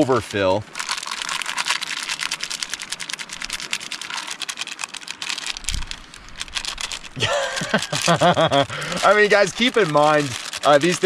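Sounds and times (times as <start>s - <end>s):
heater pouch crinkling: 0.6s - 11.0s.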